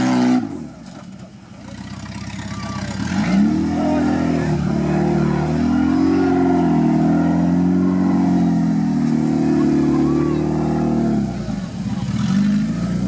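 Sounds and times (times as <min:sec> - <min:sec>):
car engine revving hard: 0:00.0 - 0:00.7, 0:02.9 - 0:13.0.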